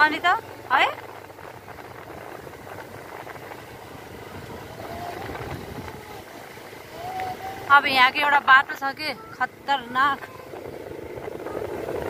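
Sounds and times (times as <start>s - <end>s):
vehicle engine rumbling with rattle: 0.0s - 12.0s.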